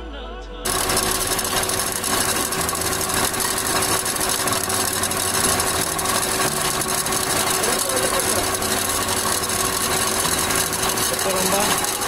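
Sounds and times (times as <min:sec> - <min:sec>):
engine running with belt noise: 0:00.6 - 0:12.0.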